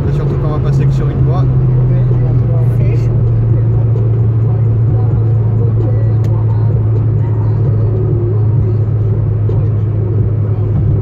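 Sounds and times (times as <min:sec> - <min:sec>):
car engine and tyre drone: 0:00.0 - 0:11.0.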